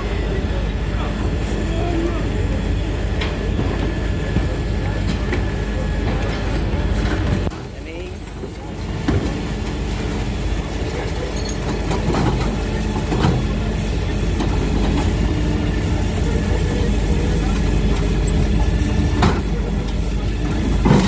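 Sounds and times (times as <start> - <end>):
garbage truck running: 0.0 - 21.0.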